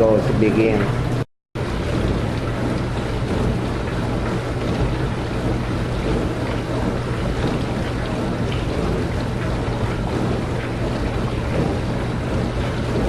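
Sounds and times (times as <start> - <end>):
dishwasher motor hum: 0.0 - 13.0
water spraying in dishwasher: 0.0 - 13.0.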